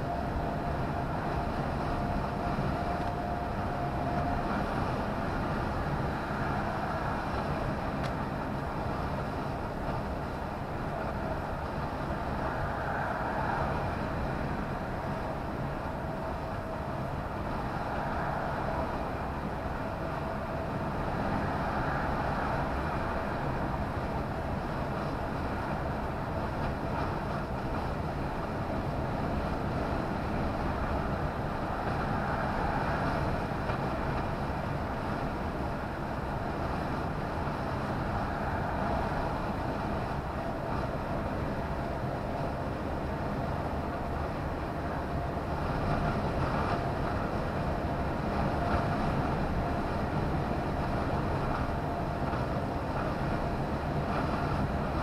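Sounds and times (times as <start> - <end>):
lorry engine and tyre noise: 0.0 - 55.0.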